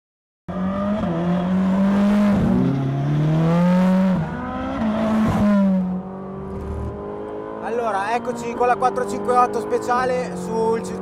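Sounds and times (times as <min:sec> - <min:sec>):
car engine at full throttle: 0:00.5 - 0:11.0.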